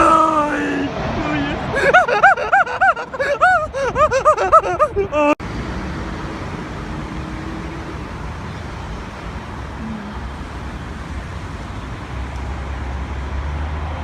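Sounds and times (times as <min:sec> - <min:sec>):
rushing engine noise: 0:00.0 - 0:14.0.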